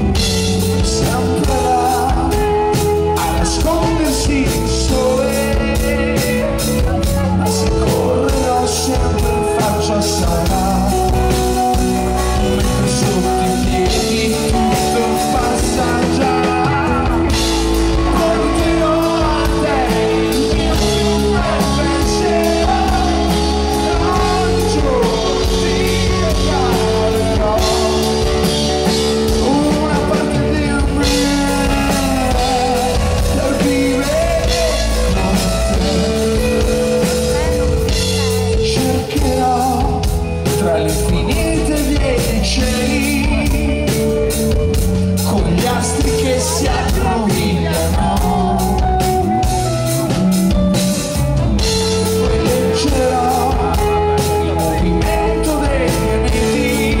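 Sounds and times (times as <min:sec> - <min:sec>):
live rock band: 0:00.0 - 0:57.0
man singing: 0:00.0 - 0:57.0.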